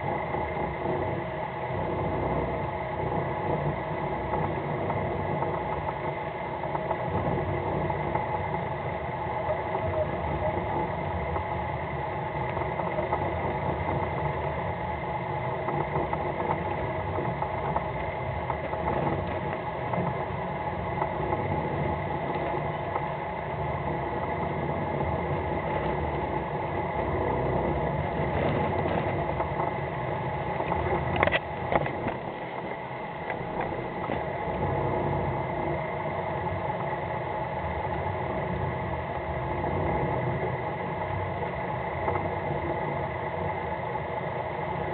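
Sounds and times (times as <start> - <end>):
boat engine idling: 0.0 - 44.9.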